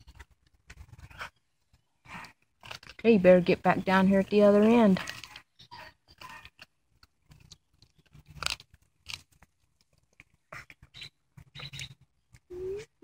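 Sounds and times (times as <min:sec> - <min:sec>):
animal chewing on a bone: 0:00.0 - 0:03.1, 0:04.5 - 0:12.5.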